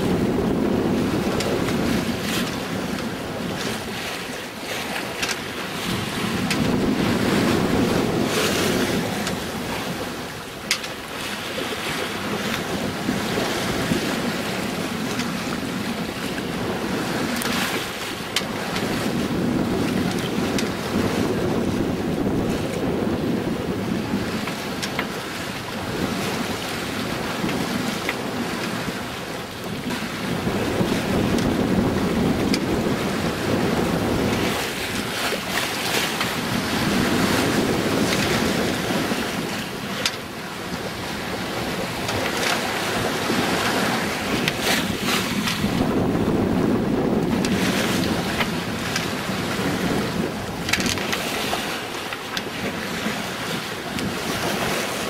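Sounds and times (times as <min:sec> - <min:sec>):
water rushing past boat hull: 0:00.0 - 0:55.0
wind buffeting microphone: 0:00.0 - 0:55.0.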